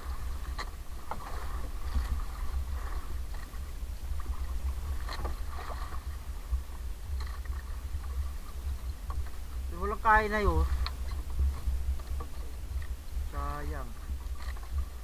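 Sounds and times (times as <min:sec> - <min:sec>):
boat engine rumble: 0:00.0 - 0:15.0
water splashing: 0:00.0 - 0:15.0.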